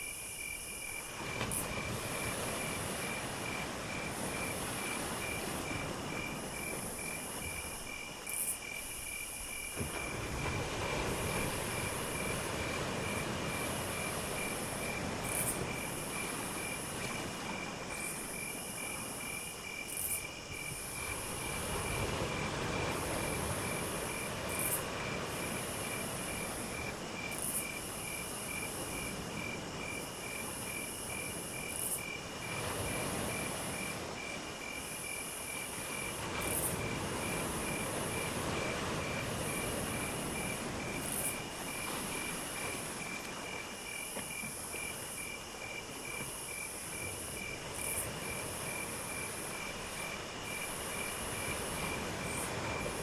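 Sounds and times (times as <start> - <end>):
crickets chirping: 0.0 - 53.0
insect trill: 0.0 - 53.0.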